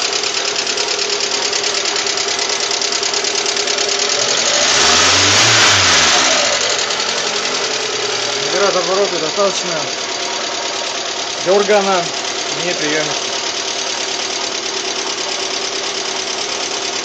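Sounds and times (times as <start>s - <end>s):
car engine knocking: 0.0s - 17.0s
engine revving: 0.0s - 17.0s.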